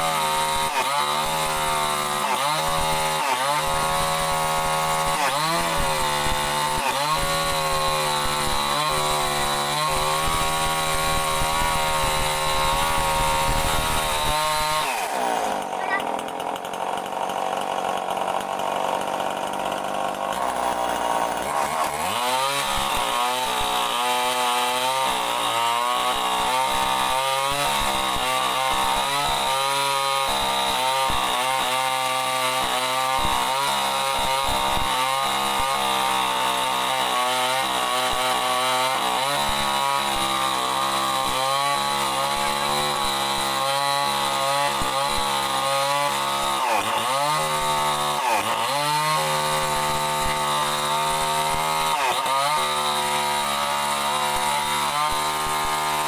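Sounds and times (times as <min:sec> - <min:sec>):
chainsaw cutting through wood: 0:00.0 - 0:56.0.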